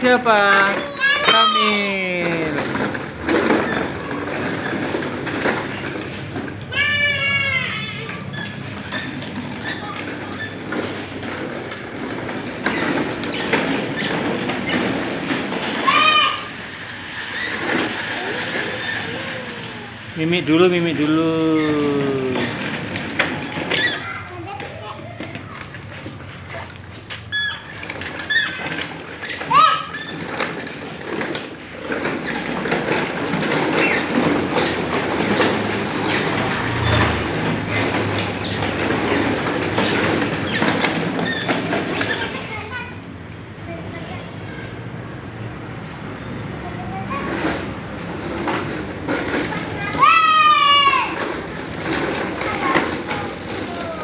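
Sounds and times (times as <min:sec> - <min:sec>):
plastic toy cars rattling: 0:00.0 - 0:44.3, 0:45.8 - 0:54.0.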